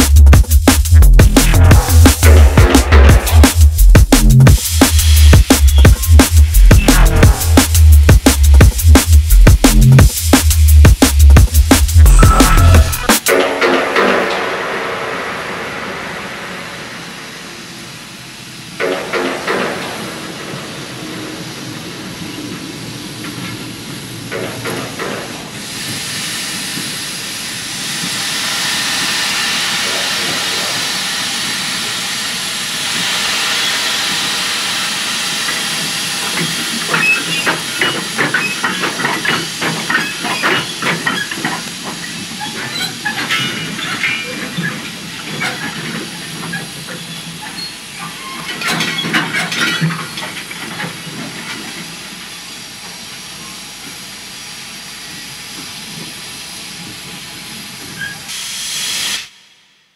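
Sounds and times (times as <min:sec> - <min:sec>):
locomotive chuffing: 0:00.0 - 0:58.3
steam locomotive venting steam: 0:00.0 - 0:59.9.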